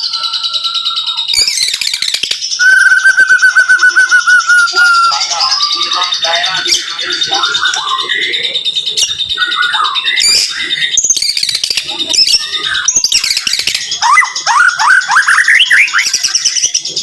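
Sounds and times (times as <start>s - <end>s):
songbird singing whistles and chatter: 0.0s - 17.0s.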